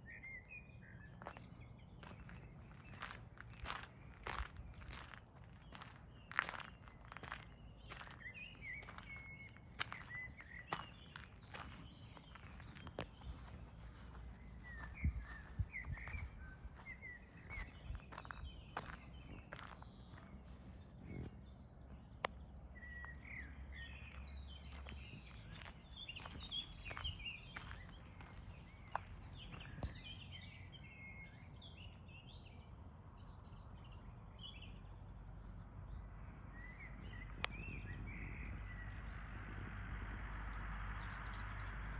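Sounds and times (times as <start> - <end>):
small birds chirping: 0.0 - 39.5
low outdoor background noise: 0.0 - 41.9.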